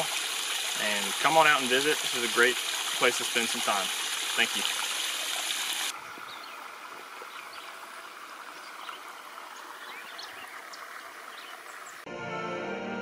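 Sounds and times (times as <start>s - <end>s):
running water rushing: 0.0s - 12.1s.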